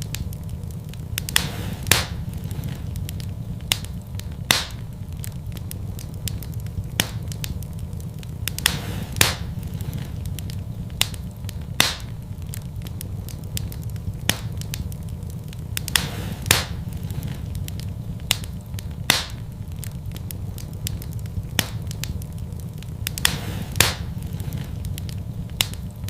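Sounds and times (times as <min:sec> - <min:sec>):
fire crackling in a fireplace: 0:00.0 - 0:26.0
low rumble: 0:00.0 - 0:26.0.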